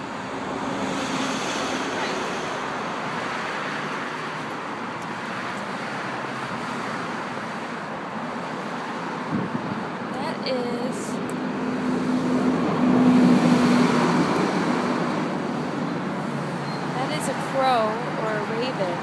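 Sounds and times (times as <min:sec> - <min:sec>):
road traffic hiss: 0:00.0 - 0:18.7.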